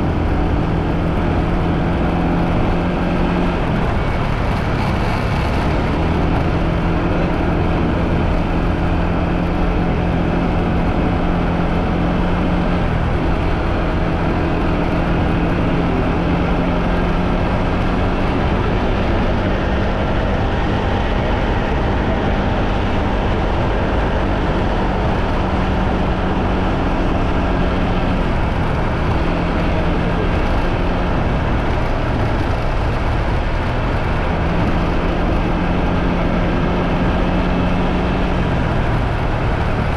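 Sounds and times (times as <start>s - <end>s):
motorbike engine cruising: 0.0s - 39.9s
road and wind noise: 0.0s - 39.9s.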